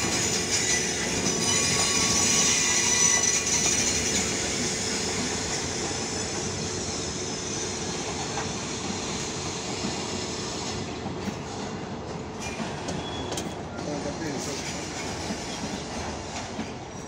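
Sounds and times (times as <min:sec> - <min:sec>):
freight train wagons rolling: 0:00.0 - 0:17.0.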